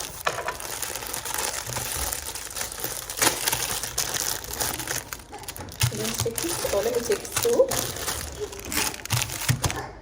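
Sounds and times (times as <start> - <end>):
snack packaging crinkling: 0.0 - 9.9.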